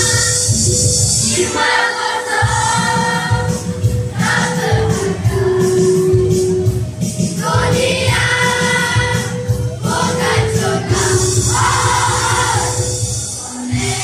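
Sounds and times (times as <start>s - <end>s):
backing music with steady beat: 0.0s - 14.0s
children's choir singing: 0.0s - 14.0s.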